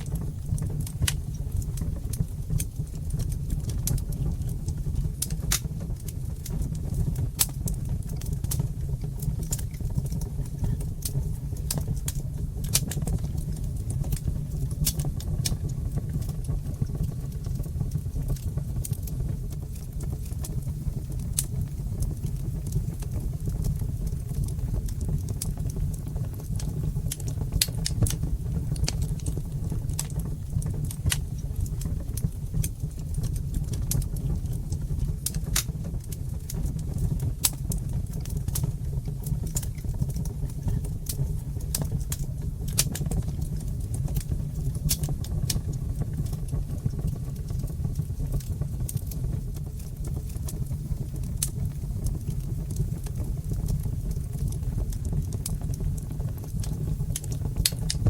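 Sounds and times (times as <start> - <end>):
fireplace fire crackling: 0.0 - 58.0
low rumble of flames: 0.0 - 58.0.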